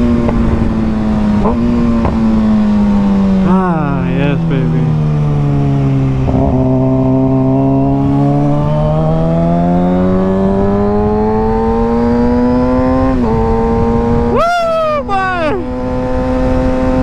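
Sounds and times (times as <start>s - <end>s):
motorcycle engine accelerating: 0.0s - 17.0s
wind and road rumble: 0.0s - 17.0s.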